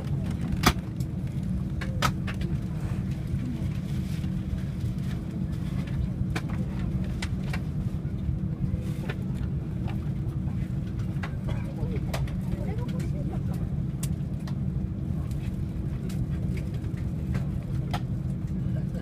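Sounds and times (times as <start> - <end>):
airliner cabin hum: 0.0 - 19.0.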